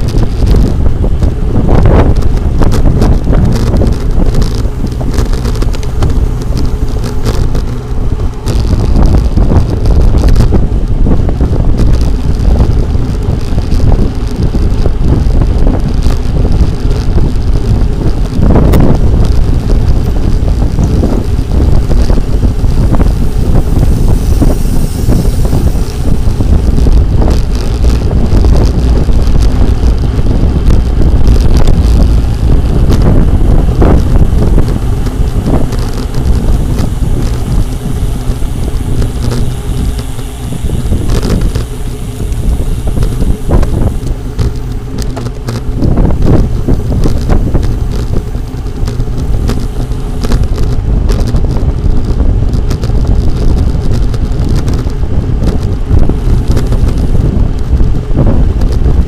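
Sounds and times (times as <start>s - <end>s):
bicycle road noise: 0.0s - 59.0s
wind buffeting microphone: 0.0s - 59.0s.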